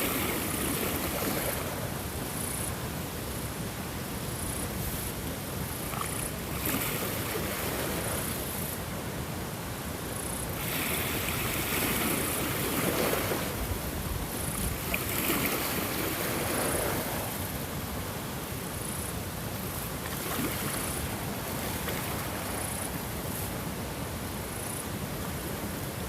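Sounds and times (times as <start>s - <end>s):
ocean waves rushing: 0.0s - 3.4s, 4.3s - 8.8s, 10.1s - 26.0s.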